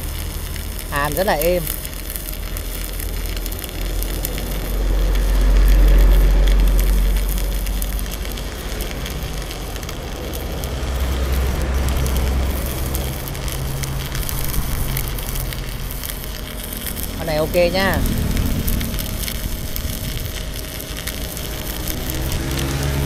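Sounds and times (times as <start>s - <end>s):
low rumble: 0.0s - 23.0s
welding arc crackling sizzle: 0.0s - 23.0s.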